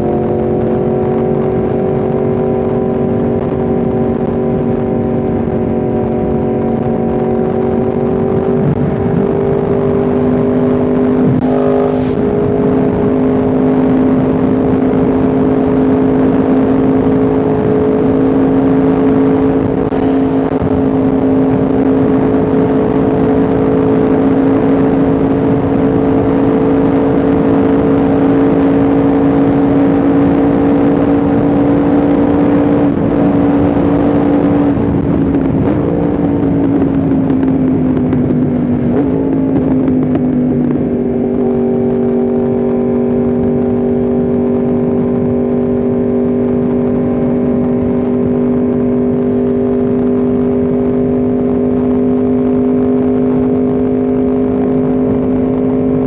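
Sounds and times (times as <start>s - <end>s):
constant rushing noise: 0.0s - 56.0s
motorcycle engine running: 0.0s - 56.0s.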